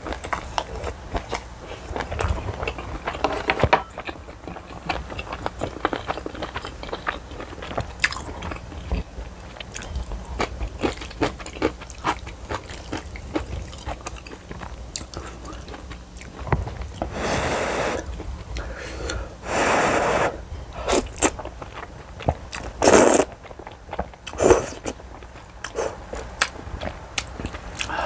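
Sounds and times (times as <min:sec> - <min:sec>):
person chewing and crunching: 0:00.0 - 0:17.4, 0:20.8 - 0:28.0.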